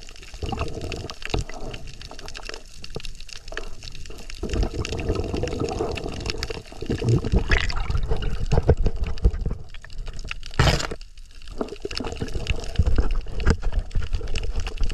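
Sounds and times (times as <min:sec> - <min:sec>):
crackling clicks: 0:00.0 - 0:14.9
underwater water sloshing and rushing: 0:00.0 - 0:14.9.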